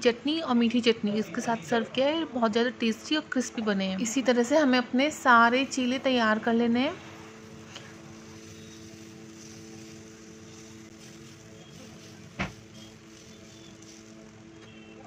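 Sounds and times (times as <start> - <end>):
background hum with hiss: 0.0 - 15.0.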